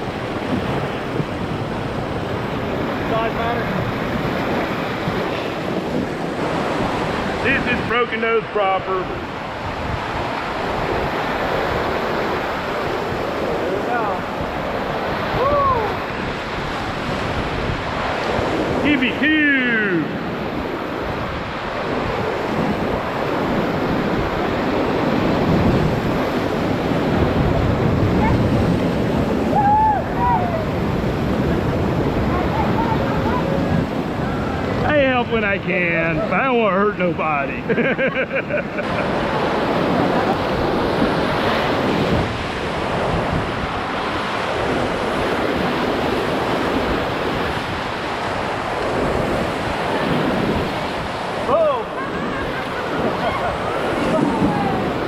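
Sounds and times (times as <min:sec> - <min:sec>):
whitewater rushing and splashing: 0:00.0 - 0:55.0.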